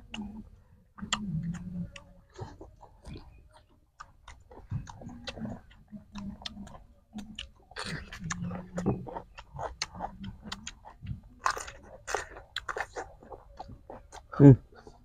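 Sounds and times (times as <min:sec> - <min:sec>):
cucumber crunching: 0:01.0 - 0:15.0.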